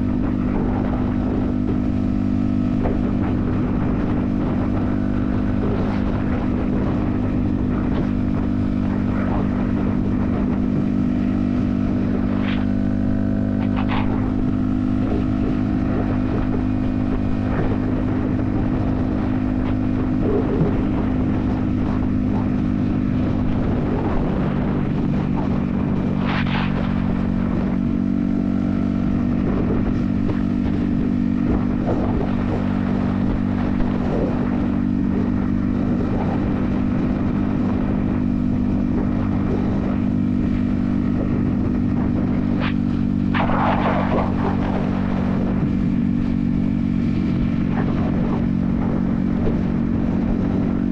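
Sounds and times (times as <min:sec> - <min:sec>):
motorcycle engine cruising: 0:00.0 - 0:50.9
rushing wind noise: 0:00.0 - 0:50.9.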